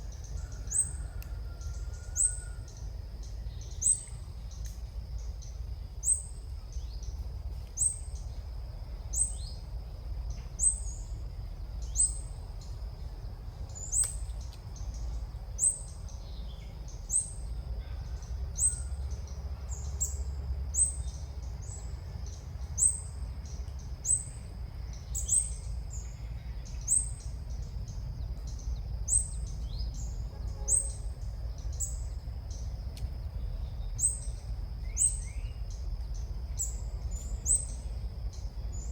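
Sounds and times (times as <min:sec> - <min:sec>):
bird chirping: 0:00.0 - 0:08.4, 0:10.3 - 0:38.9.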